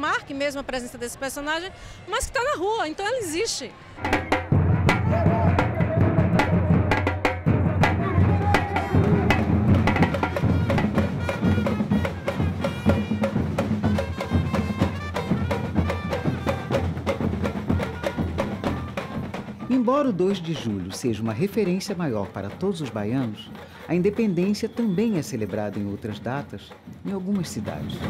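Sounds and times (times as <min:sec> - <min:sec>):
drums and percussion music: 0:02.4 - 0:28.0.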